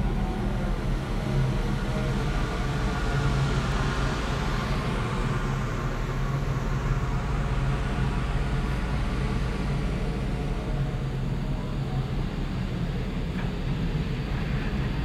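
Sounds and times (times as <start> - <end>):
ship engine drone: 0.0 - 15.0.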